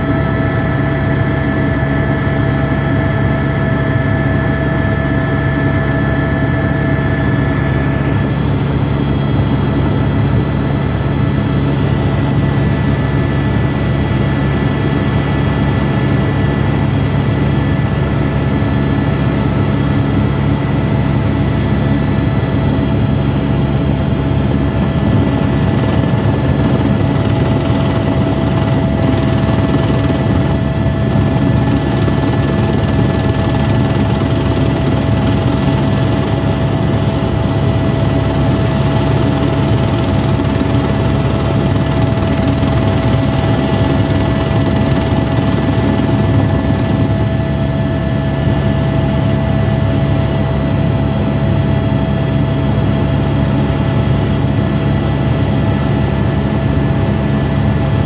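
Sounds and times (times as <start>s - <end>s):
constant whine: 0.0s - 58.0s
helicopter rotor and turbine drone: 0.0s - 58.0s.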